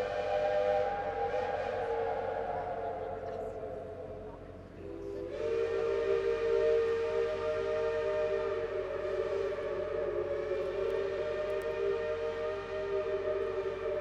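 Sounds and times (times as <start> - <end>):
steam locomotive whistle: 0.0 - 14.0.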